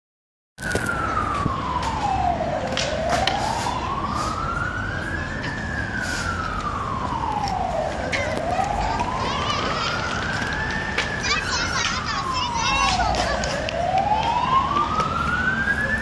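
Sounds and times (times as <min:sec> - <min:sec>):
siren wailing: 0:00.6 - 0:16.0.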